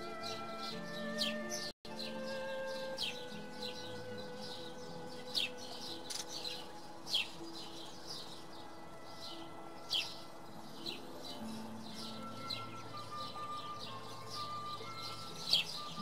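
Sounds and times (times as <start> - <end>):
sparrows chirping: 0.0 - 16.0.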